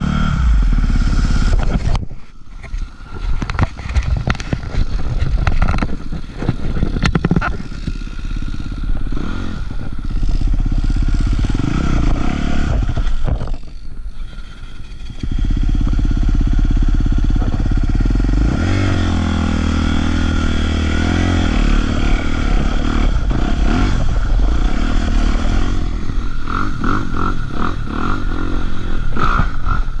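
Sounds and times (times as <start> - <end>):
dirt bike engine revving: 0.0 - 2.0, 2.8 - 30.0.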